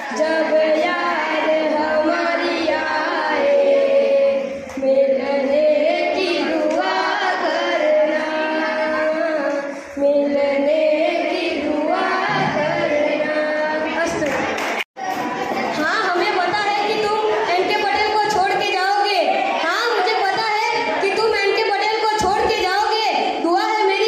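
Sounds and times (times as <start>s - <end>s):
boys singing into a microphone: 0.0s - 24.0s.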